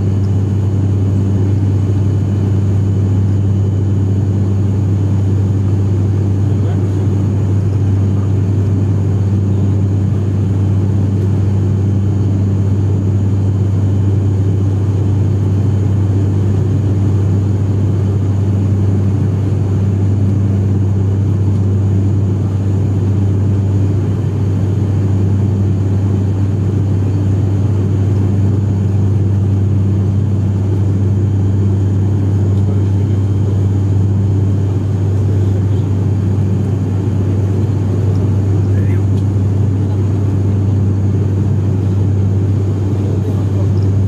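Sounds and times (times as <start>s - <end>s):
turboprop engine drone in cabin: 0.0s - 44.0s.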